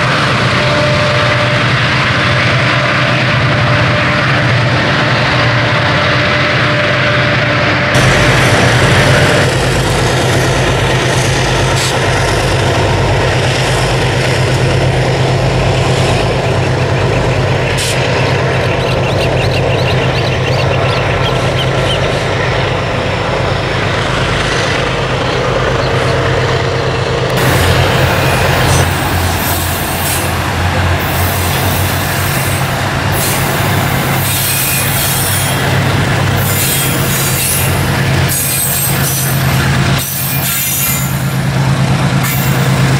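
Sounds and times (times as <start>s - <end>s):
locomotive engine hum: 0.0s - 42.9s
steel wheels screeching on rails: 0.0s - 42.9s
train wagons rolling by: 0.0s - 42.9s.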